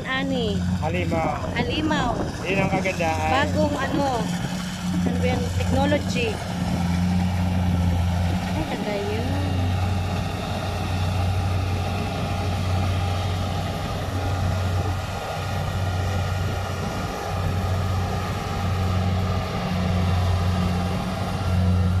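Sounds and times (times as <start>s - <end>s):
combine harvester engine drone: 0.0s - 22.0s
harvesting machinery rattle: 0.0s - 22.0s.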